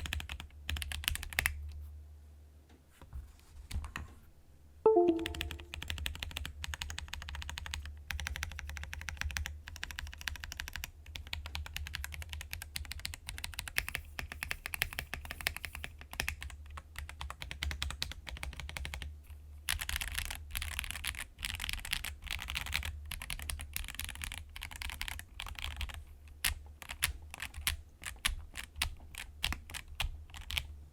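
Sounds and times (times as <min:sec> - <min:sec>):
mechanical keyboard typing: 0:00.0 - 0:01.6, 0:04.9 - 0:19.1, 0:19.7 - 0:30.7.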